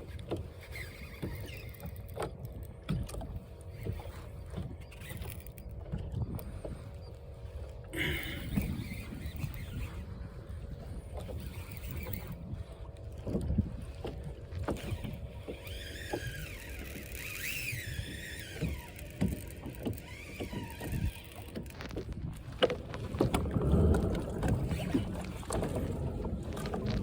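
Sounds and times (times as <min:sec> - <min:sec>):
water sloshing against boat hull: 0:00.0 - 0:27.0.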